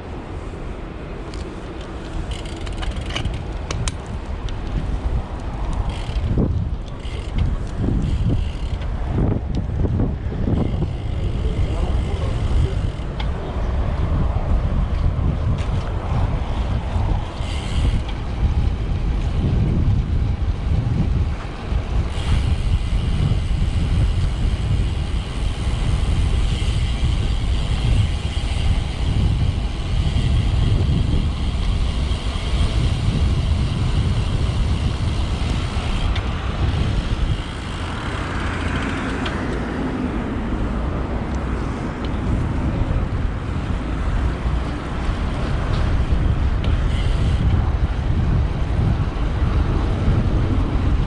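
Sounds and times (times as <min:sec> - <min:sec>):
road traffic noise: 0:00.0 - 0:51.0
wind rushing over microphone: 0:00.0 - 0:51.0.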